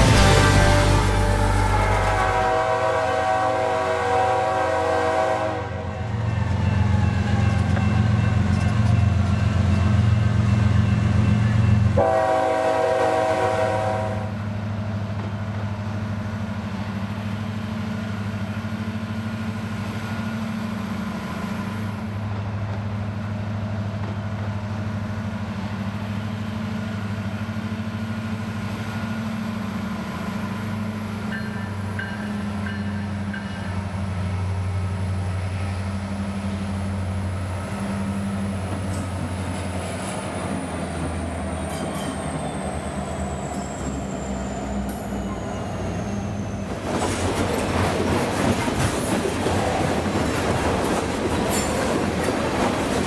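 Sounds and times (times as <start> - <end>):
diesel locomotive engines droning: 0.0 - 53.0.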